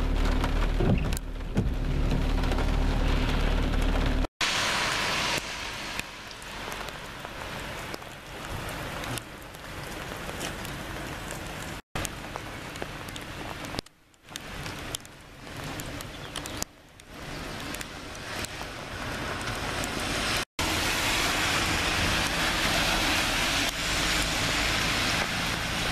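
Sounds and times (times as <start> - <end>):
rain on wet pavement: 0.0 - 25.9.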